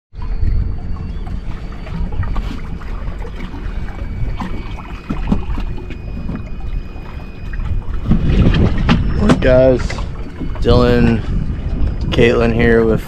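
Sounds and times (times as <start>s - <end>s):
outboard motor rumbling: 0.1s - 13.0s
wind on microphone: 0.2s - 13.0s.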